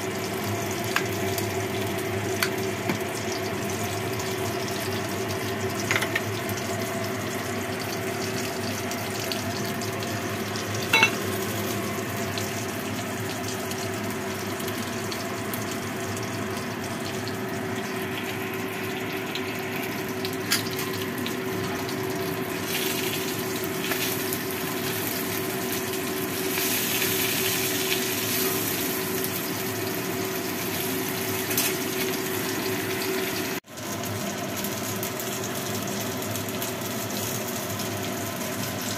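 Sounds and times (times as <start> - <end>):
fish frying in a wok: 0.0 - 38.9
kitchen hum: 0.0 - 38.9.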